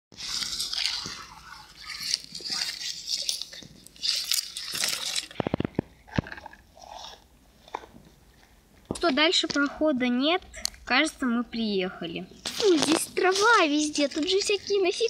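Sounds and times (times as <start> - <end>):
crunchy crackly rustling: 0.2 - 15.0.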